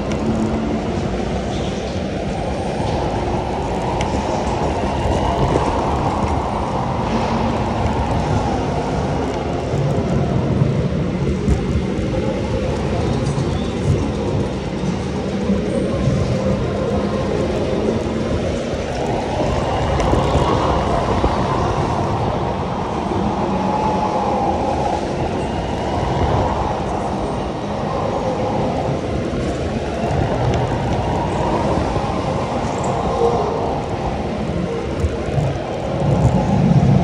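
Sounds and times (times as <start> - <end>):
go-kart rumbling at speed: 0.0 - 37.0.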